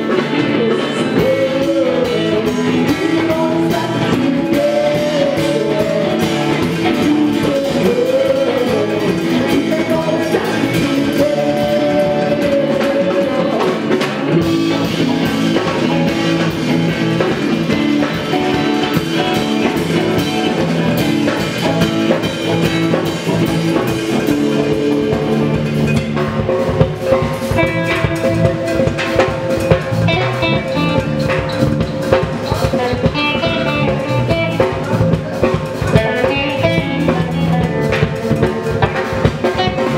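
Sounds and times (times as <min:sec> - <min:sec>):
rock band playing loudly: 0:00.0 - 0:39.9.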